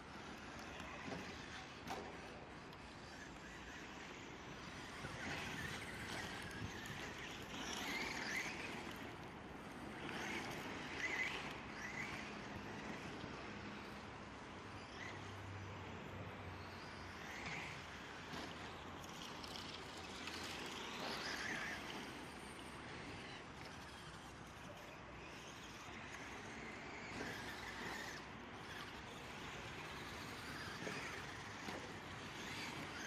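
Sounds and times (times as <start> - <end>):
rc truck motors whining: 0.0 - 33.0.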